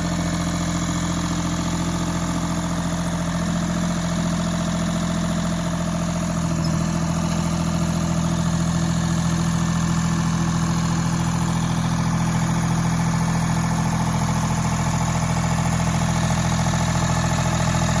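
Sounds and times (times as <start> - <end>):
lawn tractor engine idling: 0.0 - 18.0.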